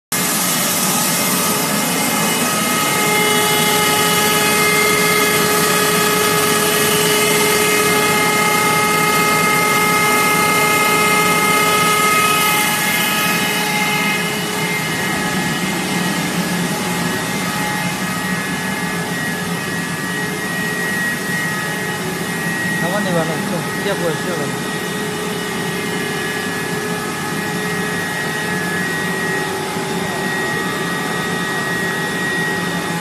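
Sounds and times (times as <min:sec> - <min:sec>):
machine whining tones: 0:00.1 - 0:33.0
machinery rushing noise: 0:00.2 - 0:33.0.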